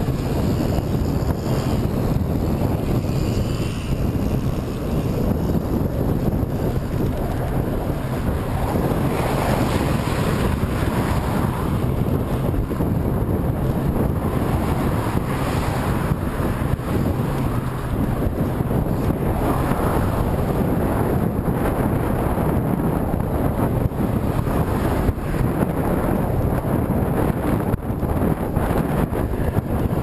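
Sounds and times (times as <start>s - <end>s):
wind buffeting the microphone: 0.0s - 30.0s.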